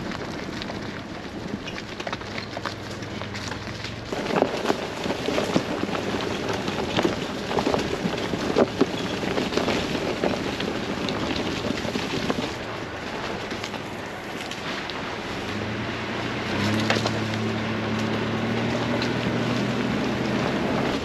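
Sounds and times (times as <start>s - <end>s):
wind noise on microphone: 0.0s - 3.4s, 4.0s - 21.0s
tyres crunching leaves and twigs: 0.0s - 21.0s.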